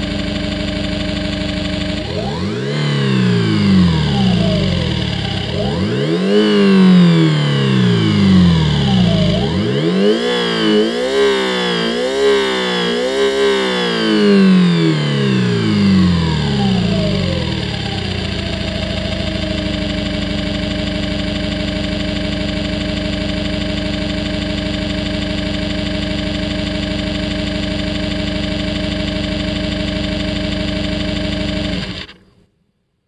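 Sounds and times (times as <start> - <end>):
simulated engine idling with whine: 0.0 - 32.5.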